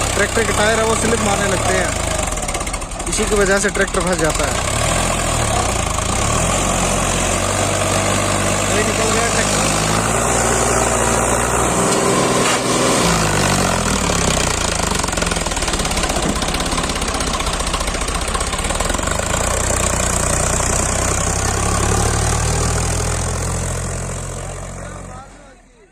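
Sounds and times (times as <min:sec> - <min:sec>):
tractor diesel engine running hard: 0:00.0 - 0:25.9.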